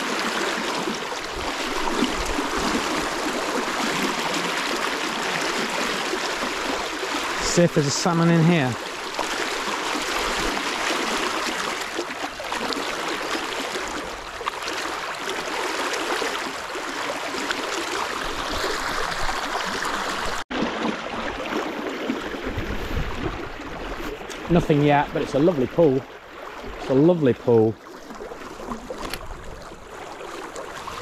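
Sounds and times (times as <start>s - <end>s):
river current rushing: 0.0s - 31.0s.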